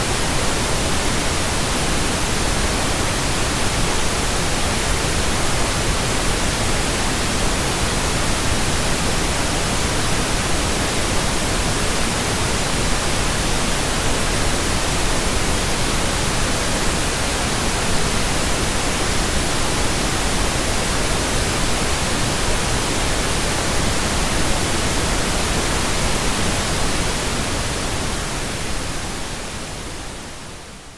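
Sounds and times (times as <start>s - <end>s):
steady pink noise hiss: 0.0s - 30.9s.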